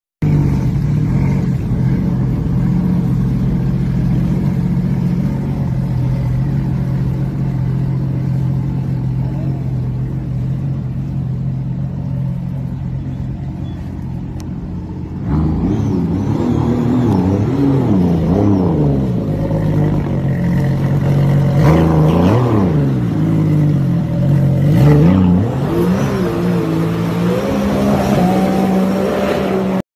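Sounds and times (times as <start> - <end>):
car engine revving: 0.2 - 29.8.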